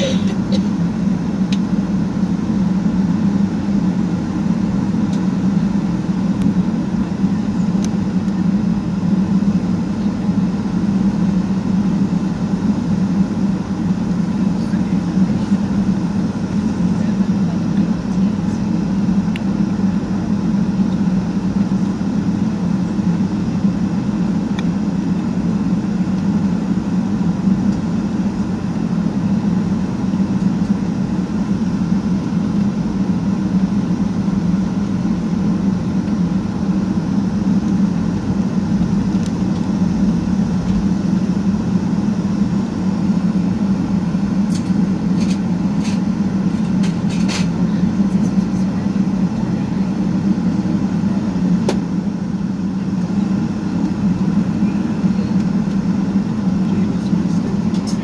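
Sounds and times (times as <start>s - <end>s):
aircraft engine and airflow drone: 0.0s - 58.0s.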